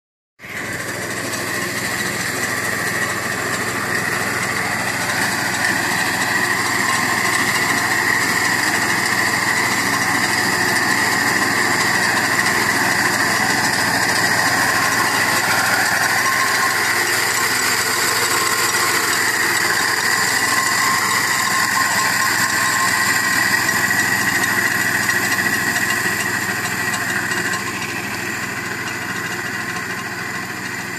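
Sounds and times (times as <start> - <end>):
high-pitched whine: 0.4 - 30.8
reaper engine running: 0.4 - 30.9.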